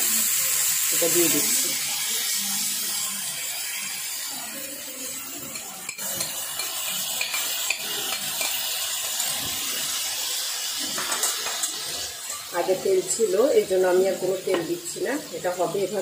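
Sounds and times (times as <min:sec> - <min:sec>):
steak sizzling on grill pan: 0:00.0 - 0:16.0.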